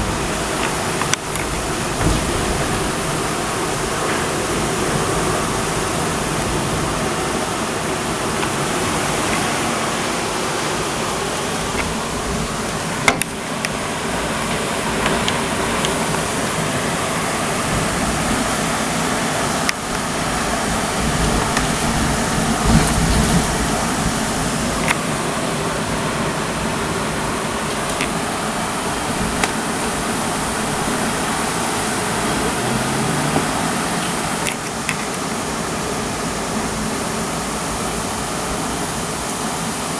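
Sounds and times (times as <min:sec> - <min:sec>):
thunder rumble: 0:00.0 - 0:34.4
heavy rain pouring: 0:00.0 - 0:39.9.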